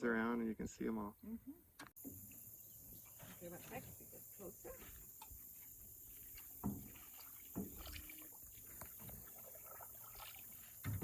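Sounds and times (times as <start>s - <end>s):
soft paddle strokes: 2.0s - 11.0s.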